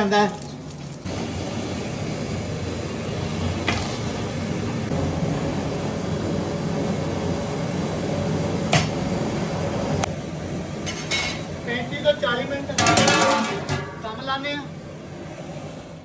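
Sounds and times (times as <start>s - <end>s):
gas burner roaring: 0.0s - 16.0s.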